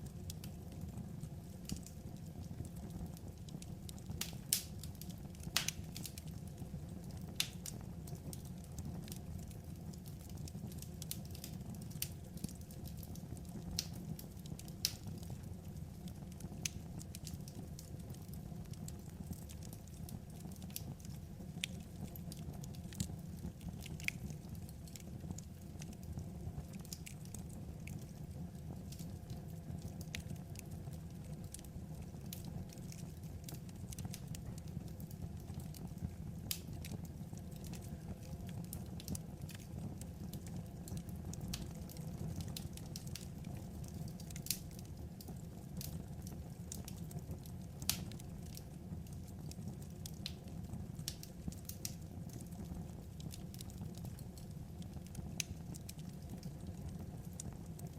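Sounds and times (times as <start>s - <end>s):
burning logs crackling and popping: 0.0s - 57.9s
fire rumbling: 0.0s - 57.9s.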